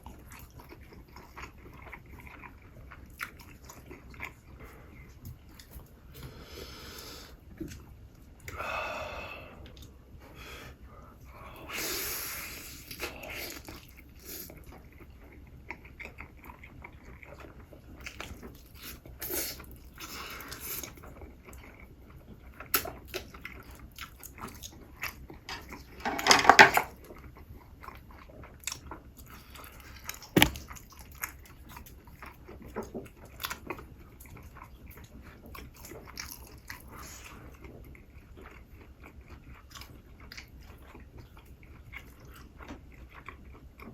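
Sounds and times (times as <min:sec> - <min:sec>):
wet chewing and crunching: 0:00.0 - 0:06.3, 0:12.6 - 0:43.9.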